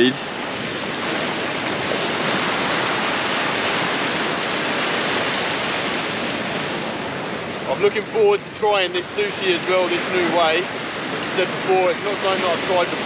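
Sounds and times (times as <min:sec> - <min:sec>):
ocean surf over rocks: 0:00.0 - 0:13.0.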